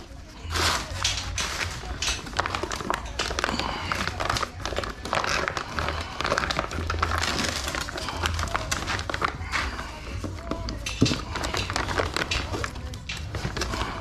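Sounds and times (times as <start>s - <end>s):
packaging rustling and crinkling: 0.0s - 14.0s.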